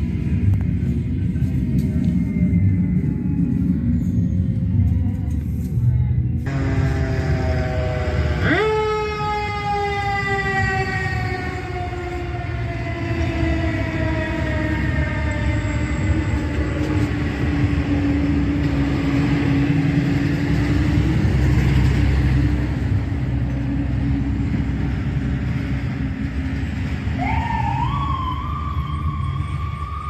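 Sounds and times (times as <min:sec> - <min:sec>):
engine and road rumble: 0:00.0 - 0:30.0.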